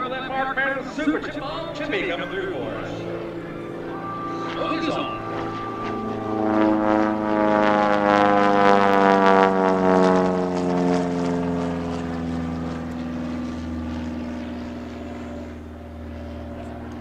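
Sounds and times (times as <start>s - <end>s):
propeller plane droning past: 0.0s - 17.0s.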